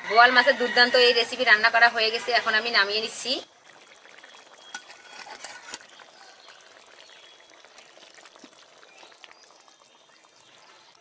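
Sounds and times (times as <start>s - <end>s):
curry simmering and bubbling: 0.6s - 11.0s.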